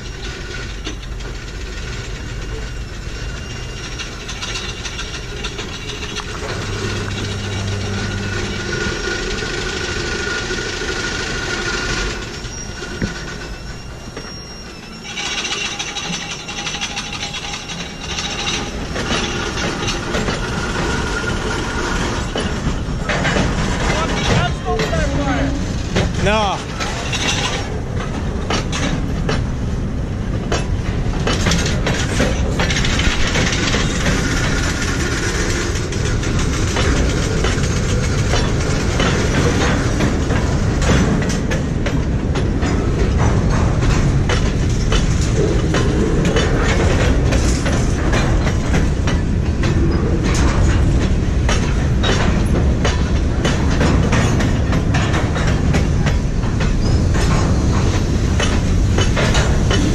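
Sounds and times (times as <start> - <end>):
freight cars rumbling past: 0.0 - 59.9
wheels clacking over rail joints: 0.0 - 59.9.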